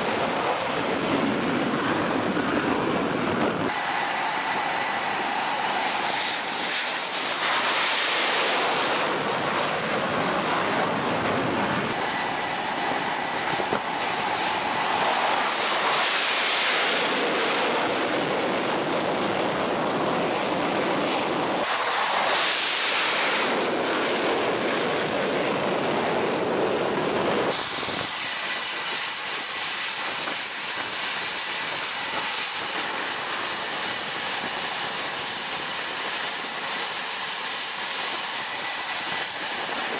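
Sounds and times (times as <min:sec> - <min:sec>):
high-pitched turbine whine: 0:00.0 - 0:39.9
jet engine noise: 0:00.0 - 0:39.9.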